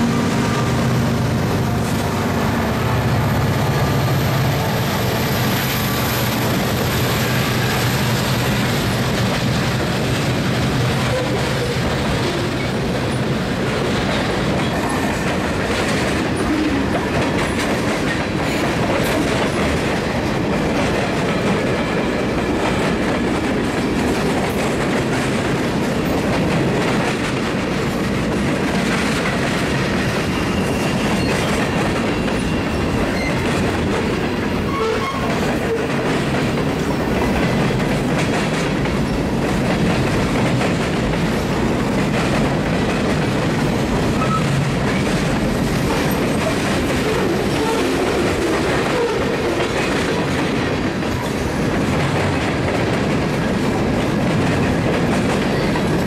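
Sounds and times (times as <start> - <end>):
diesel locomotive engine drone: 0.0 - 56.0
train cars rumbling clickety-clack: 0.0 - 56.0.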